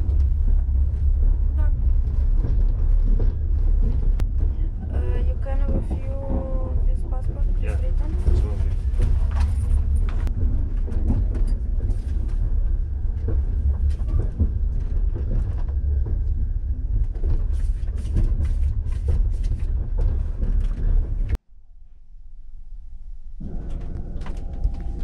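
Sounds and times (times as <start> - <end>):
knocks and clanks: 0.0 - 21.4
railway carriage rumble: 0.0 - 21.4, 23.4 - 25.0.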